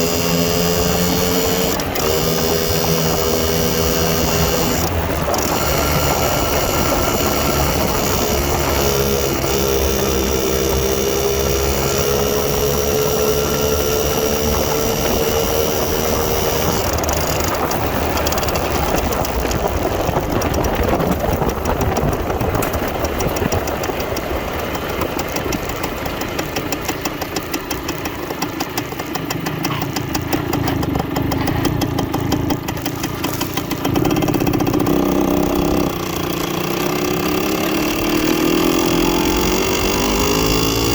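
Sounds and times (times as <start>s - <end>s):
motorcycle two-stroke engine running: 0.0s - 40.9s.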